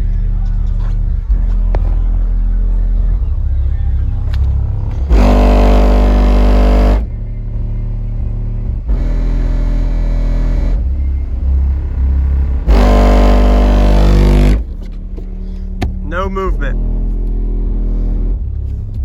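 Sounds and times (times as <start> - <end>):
subwoofer playing bass-heavy music: 0.0 - 19.0
very loud bass notes: 0.0 - 19.0.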